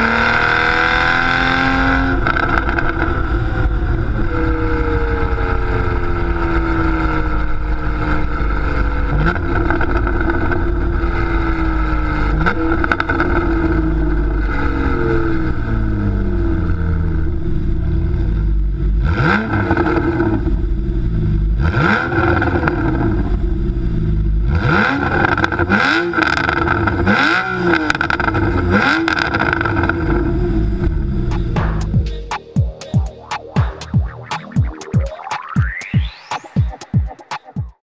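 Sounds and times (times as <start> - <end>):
car engine running: 0.0 - 24.6, 27.8 - 35.8
engine revving: 0.0 - 35.0.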